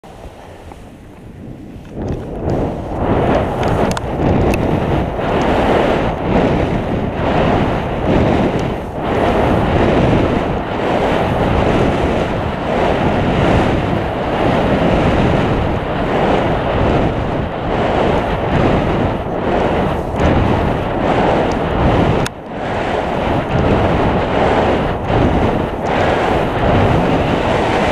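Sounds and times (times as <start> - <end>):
skis scraping over snow: 0.0 - 27.9
wind rushing over microphone: 0.0 - 27.9.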